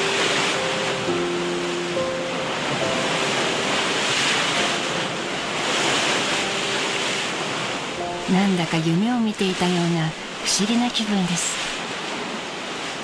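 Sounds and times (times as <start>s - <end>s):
soft background music: 0.0s - 11.0s
sea waves washing ashore: 0.0s - 13.0s.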